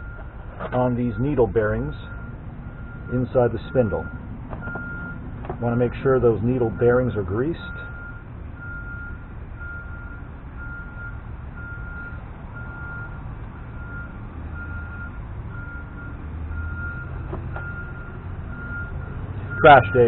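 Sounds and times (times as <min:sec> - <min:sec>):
reversing alarm beeping: 0:00.0 - 0:20.0.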